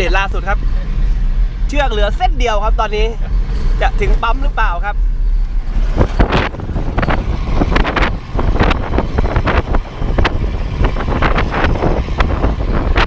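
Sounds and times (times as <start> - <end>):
road and tyre rumble: 0.0 - 13.0
wind buffeting microphone: 0.0 - 13.0.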